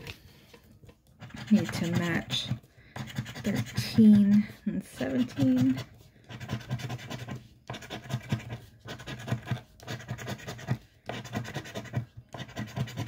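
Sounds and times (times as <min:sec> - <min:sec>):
coin scratching lottery ticket: 0:01.2 - 0:13.0.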